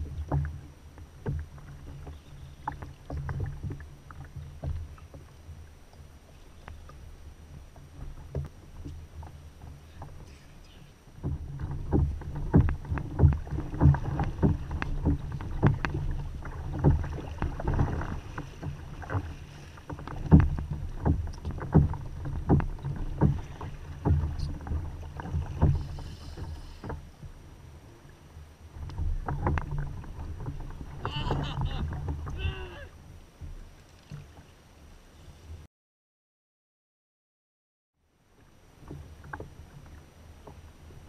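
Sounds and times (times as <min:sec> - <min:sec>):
water slapping against kayak hull: 0:00.0 - 0:34.6
low rumble of wind and sea: 0:00.0 - 0:35.7, 0:38.0 - 0:41.0.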